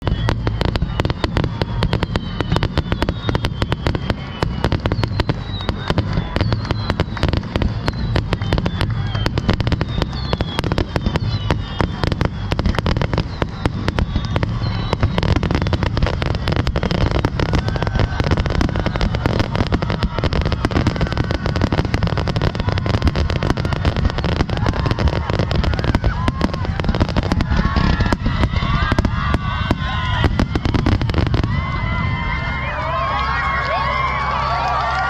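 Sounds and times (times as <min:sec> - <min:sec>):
fireworks whistles: 0:00.0 - 0:34.1
fireworks bangs and crackles: 0:00.0 - 0:35.0
low rumble: 0:00.0 - 0:35.0.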